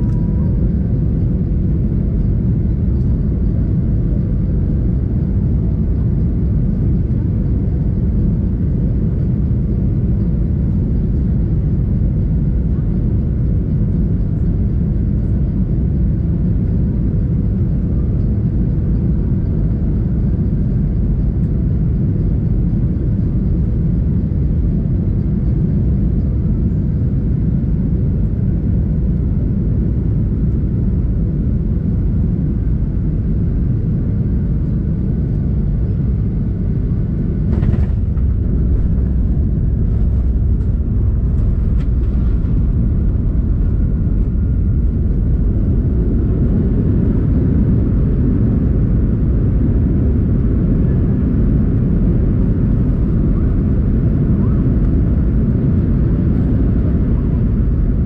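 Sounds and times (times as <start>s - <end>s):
airliner low rumble: 0.0s - 58.0s
faint steady hum: 0.0s - 58.0s.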